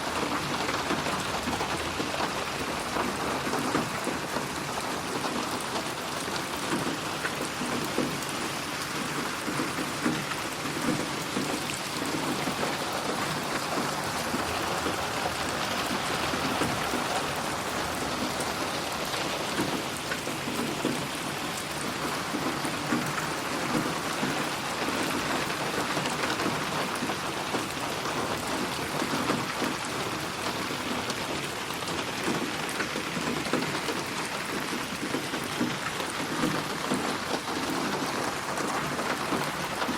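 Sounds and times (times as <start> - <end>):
rain hiss: 0.0 - 39.9
raindrops pattering: 0.0 - 39.9.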